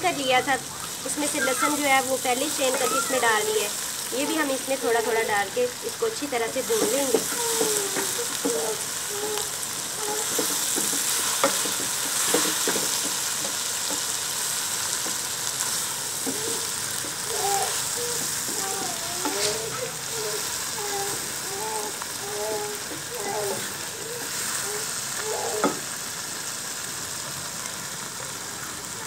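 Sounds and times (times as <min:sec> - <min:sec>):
meat frying in a pot: 0:00.0 - 0:29.0.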